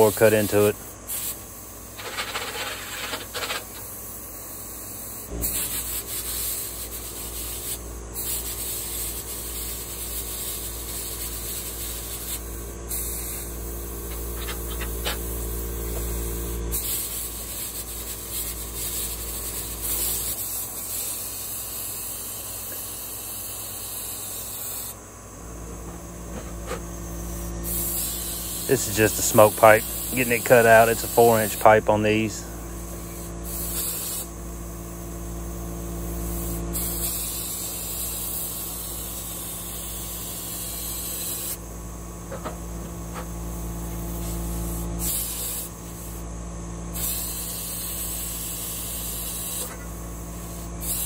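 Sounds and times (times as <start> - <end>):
plasma cutter hissing: 0.0 - 25.0, 25.8 - 51.0.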